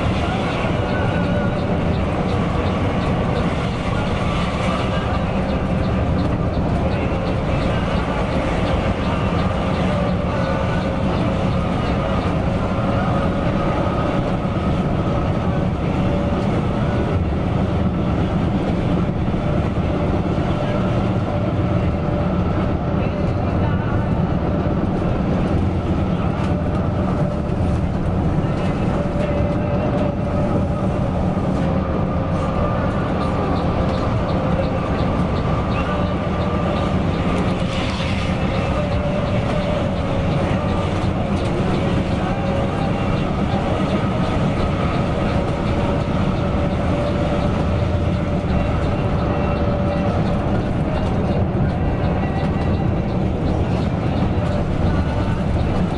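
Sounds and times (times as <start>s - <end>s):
bus engine and road noise: 0.0s - 55.9s.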